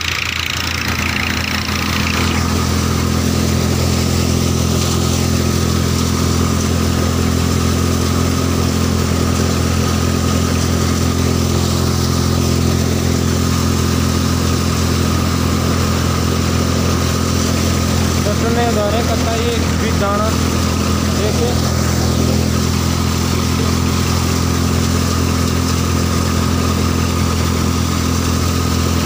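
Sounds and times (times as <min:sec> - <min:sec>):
threshing drum and belts whirring: 0:00.0 - 0:29.0
tractor diesel engine drone: 0:00.0 - 0:29.0.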